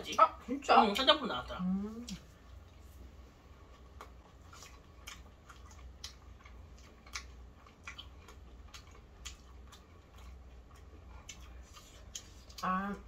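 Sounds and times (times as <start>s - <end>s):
low steady hum: 0.0s - 13.0s
people chewing with mouth smacks: 1.8s - 13.0s.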